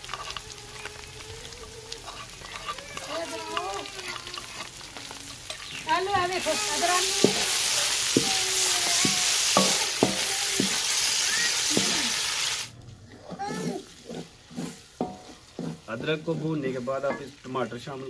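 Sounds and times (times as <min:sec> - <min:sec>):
wooden spoon scraping pan: 0:00.0 - 0:12.2, 0:13.1 - 0:18.0
onions sizzling in hot oil: 0:00.0 - 0:18.0.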